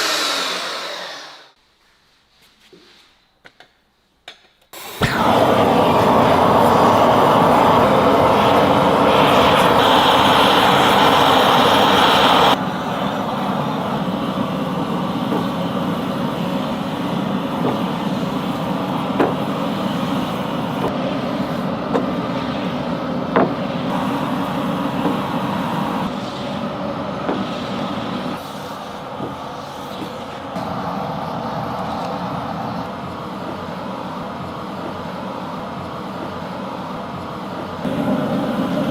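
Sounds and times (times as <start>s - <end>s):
workshop machinery running: 0.0s - 1.6s, 4.8s - 38.9s
quieter machine running noise: 4.8s - 38.9s.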